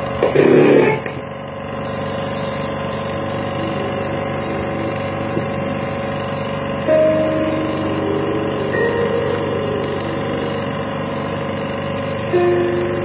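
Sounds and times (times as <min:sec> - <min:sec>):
film projector running: 0:00.0 - 0:13.0.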